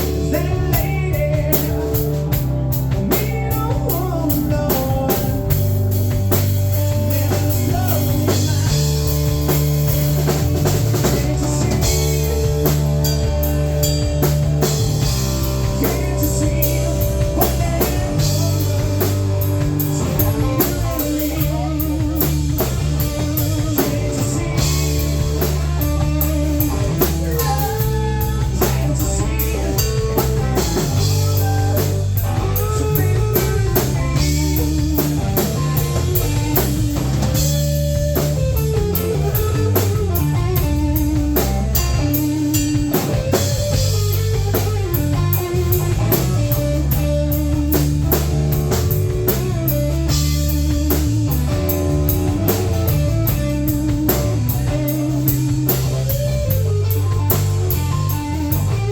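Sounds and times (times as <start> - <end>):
drum kit beat: 0.0 - 58.9
rock band playing: 0.0 - 58.9.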